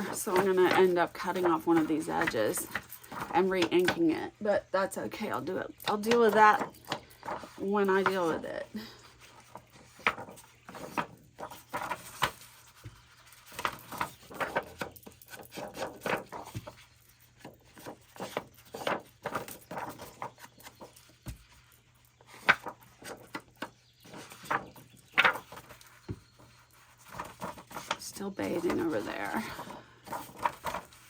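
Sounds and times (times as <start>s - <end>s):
paper rustling: 0.0s - 4.2s, 5.1s - 31.0s.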